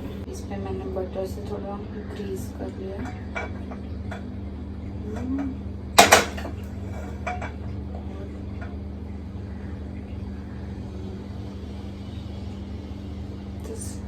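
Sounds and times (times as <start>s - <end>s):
steady low motor hum: 0.0s - 14.0s.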